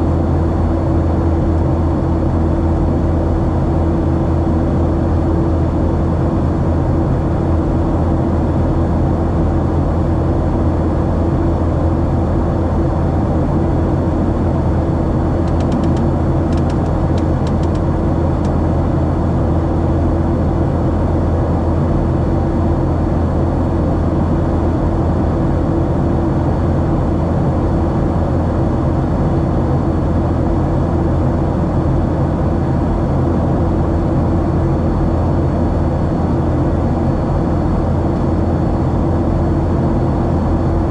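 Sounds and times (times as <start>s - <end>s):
airplane cabin engine drone: 0.0s - 40.9s
low hum: 0.0s - 40.9s.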